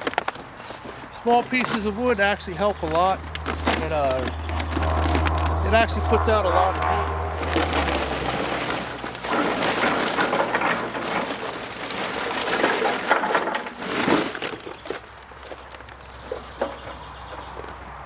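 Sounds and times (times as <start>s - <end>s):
charcoal crunching clatter: 0.0s - 17.8s.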